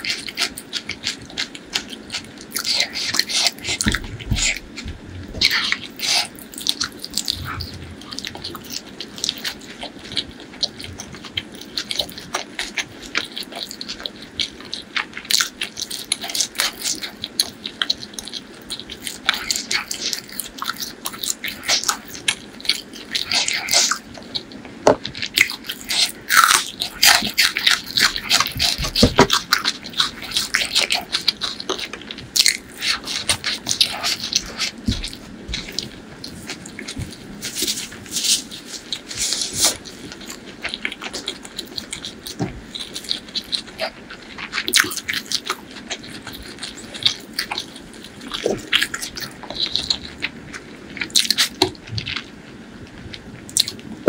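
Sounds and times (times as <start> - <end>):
wet chewing mouth clicks: 0.0 - 54.0.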